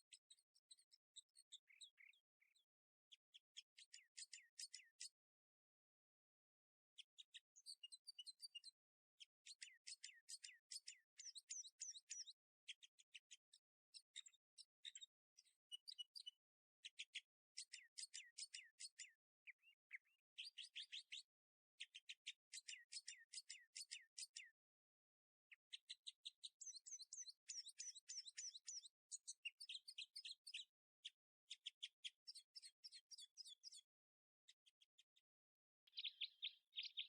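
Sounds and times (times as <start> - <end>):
small bird chirping: 0.0 - 5.3, 6.9 - 24.6, 25.4 - 37.0.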